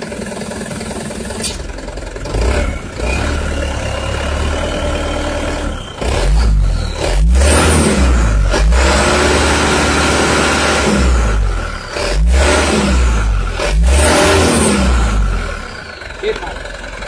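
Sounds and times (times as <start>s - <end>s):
diesel truck engine revving: 0.0s - 17.0s.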